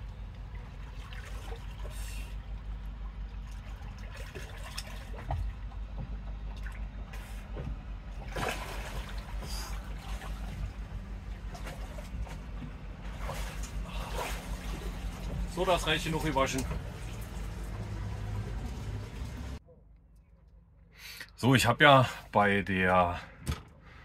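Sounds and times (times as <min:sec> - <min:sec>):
water splashing and trickling: 0:00.0 - 0:19.6.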